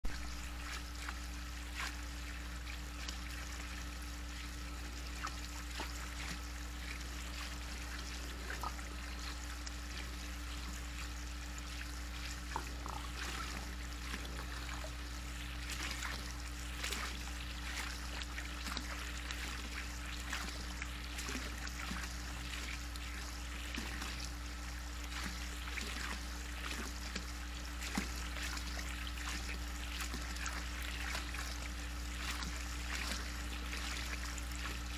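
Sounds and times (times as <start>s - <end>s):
pool water trickling and lapping: 0.0s - 34.9s
small water splashes and drips: 0.0s - 34.9s
steady low hum: 0.0s - 34.9s.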